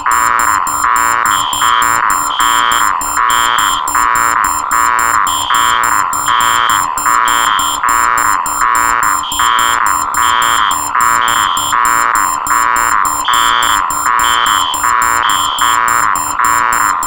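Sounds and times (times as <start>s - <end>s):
higher electronic beep: 0.0s - 17.0s
pulsing buzzer tones: 0.0s - 17.0s
rapid high-pitched beeping: 0.0s - 17.0s.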